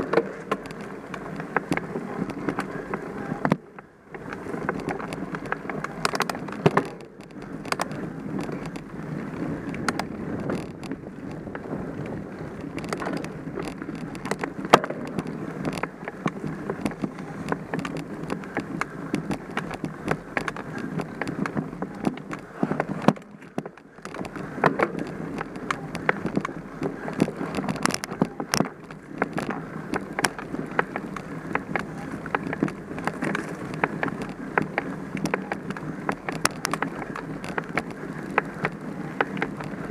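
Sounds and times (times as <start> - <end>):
bike rattling: 0.0 - 39.9
bike tyres rolling on dirt: 0.0 - 39.9
sharp clicks and knocks: 0.0 - 39.9.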